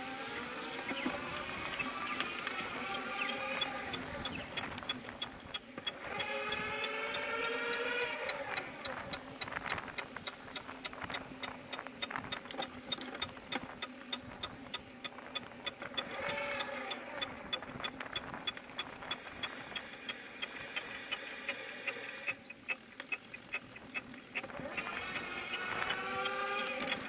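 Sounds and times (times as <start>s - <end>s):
bicycle wheel ticking: 0.2s - 27.0s.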